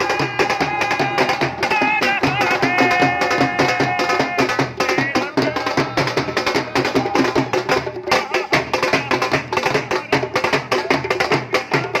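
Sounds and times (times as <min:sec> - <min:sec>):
dhol drum played fast: 0:00.0 - 0:12.0
music: 0:00.0 - 0:12.0.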